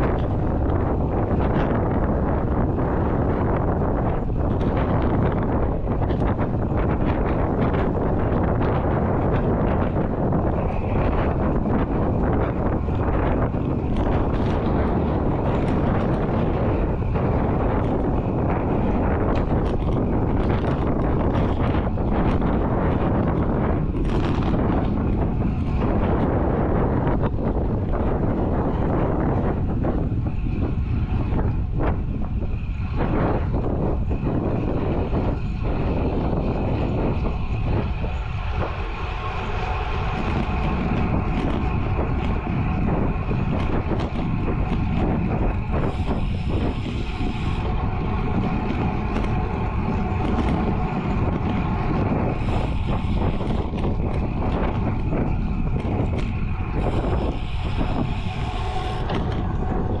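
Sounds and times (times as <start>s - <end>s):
bike tyres rumbling on asphalt: 0.0s - 60.0s
wind rushing over microphone: 0.0s - 60.0s.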